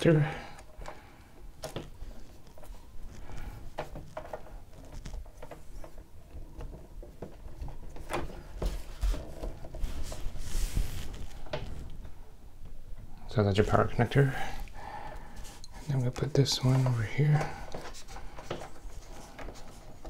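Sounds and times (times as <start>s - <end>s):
cables rustling: 0.0s - 20.0s.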